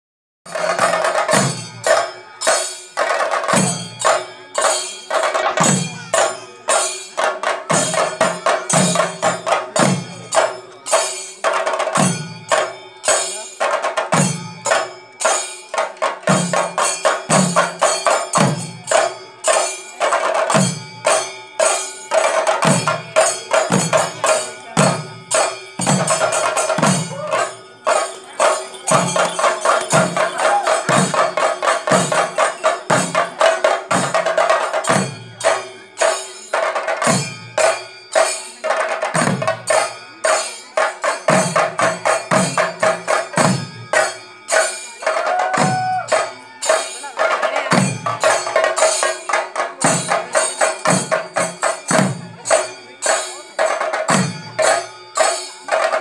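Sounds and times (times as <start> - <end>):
drums rolling with sticks: 0.5 - 56.0
heavy low drum beats: 0.5 - 56.0.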